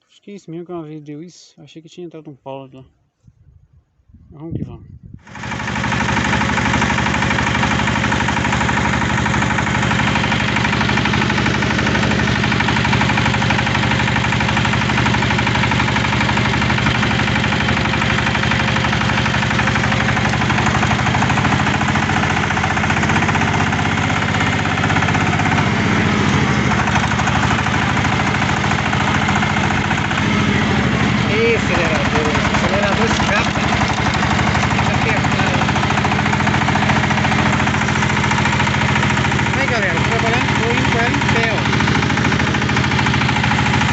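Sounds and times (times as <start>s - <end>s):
tractor engine running: 5.2s - 43.9s.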